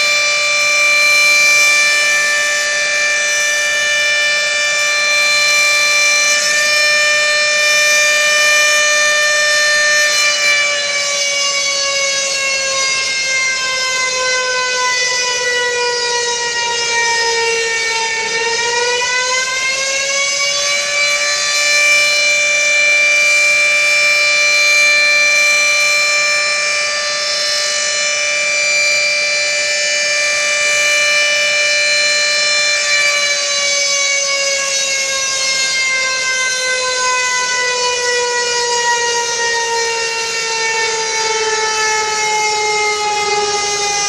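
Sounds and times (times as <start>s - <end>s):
fire siren: 0.0s - 44.0s.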